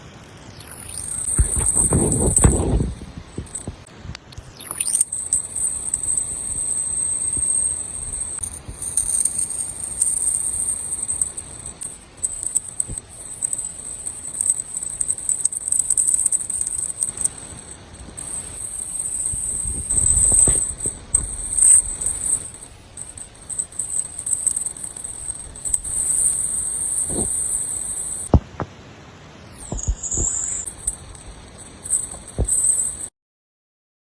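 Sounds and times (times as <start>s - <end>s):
high-pitched electric motor whine: 0.0s - 28.7s, 29.4s - 33.1s.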